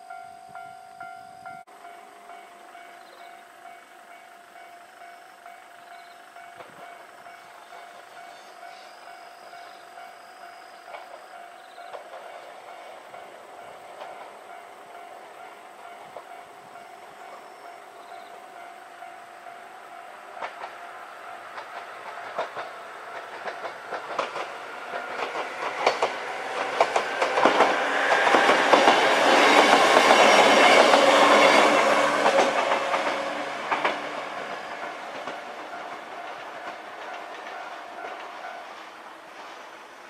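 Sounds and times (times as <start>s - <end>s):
level-crossing warning bell: 0.0s - 38.8s
train wheels clicking over rail joints: 0.1s - 39.9s.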